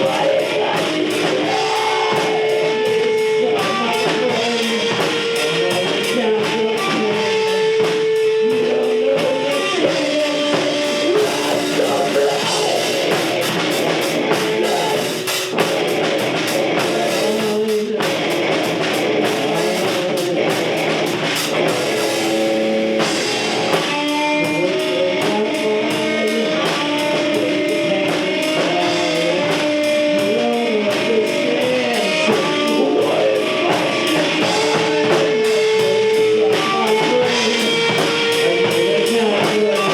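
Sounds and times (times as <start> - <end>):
rock music with guitars and drums: 0.0 - 39.9.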